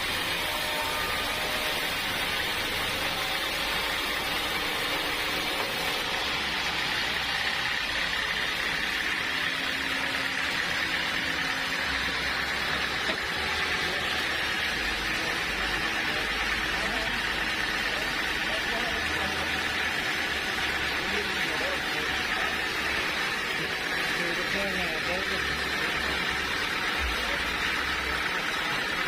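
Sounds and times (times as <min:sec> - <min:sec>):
sawmill machinery sawing log: 0:00.0 - 0:29.0.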